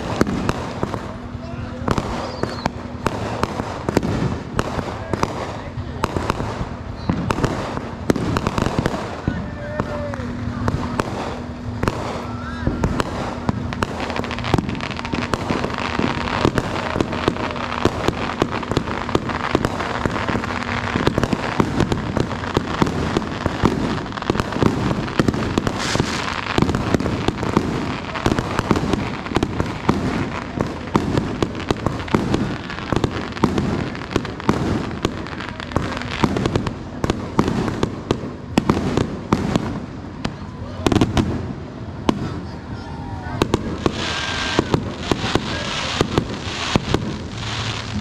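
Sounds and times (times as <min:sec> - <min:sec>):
fireworks bangs and crackling pops: 0:00.0 - 0:48.0.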